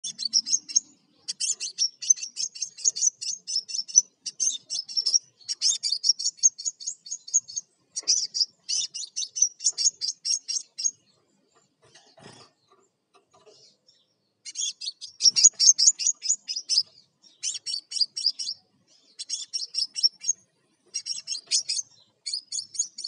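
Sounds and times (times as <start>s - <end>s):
bird chattering chirps: 0.0s - 23.0s.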